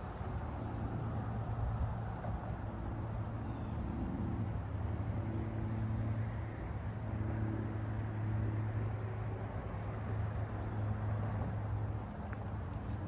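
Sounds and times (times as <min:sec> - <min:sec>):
passing vehicle engines: 0:00.0 - 0:13.0
road traffic rumble: 0:00.0 - 0:13.0.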